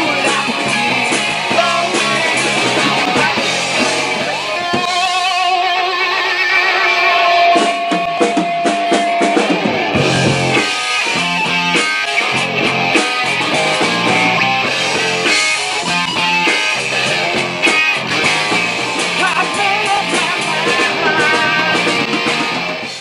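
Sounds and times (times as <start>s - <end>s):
pulsing bass line: 0.0s - 5.1s, 9.5s - 23.0s
electric guitar: 0.0s - 23.0s
live rock band playing: 0.0s - 23.0s.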